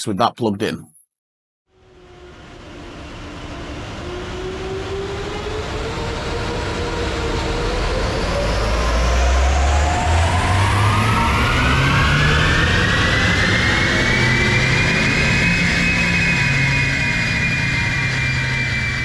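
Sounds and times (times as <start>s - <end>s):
turbocharged engine accelerating: 1.8s - 19.0s.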